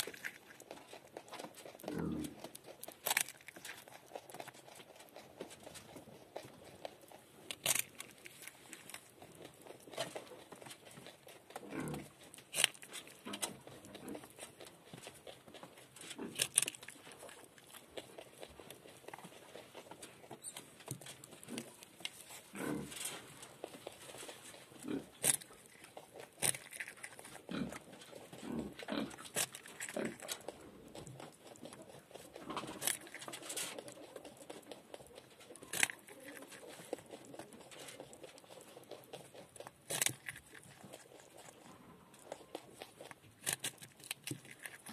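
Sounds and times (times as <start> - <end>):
rodent gnawing a carrot: 0.0 - 44.9.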